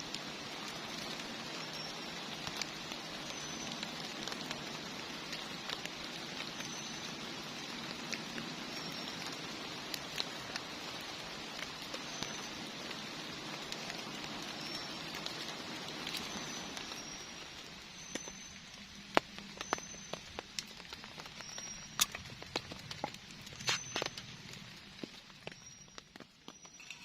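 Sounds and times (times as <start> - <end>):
heavy rain hissing: 0.0 - 21.6
sharp ticks and crackles: 0.0 - 27.0.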